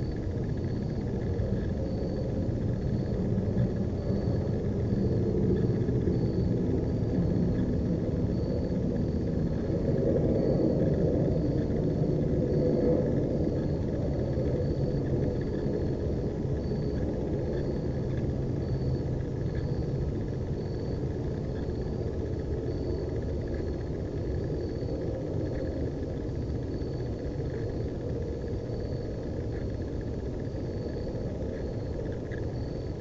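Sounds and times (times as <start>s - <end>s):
low night background rumble: 0.0s - 33.0s.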